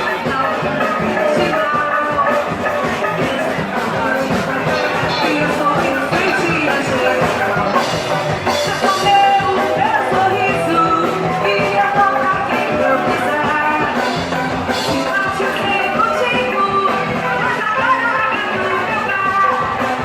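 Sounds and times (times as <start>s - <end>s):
live band playing fast instrumental: 0.0s - 20.0s.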